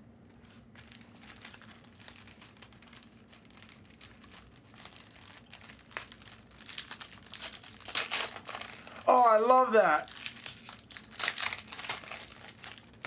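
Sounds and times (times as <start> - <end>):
plastic foil wrappers crinkling: 0.7 - 13.0.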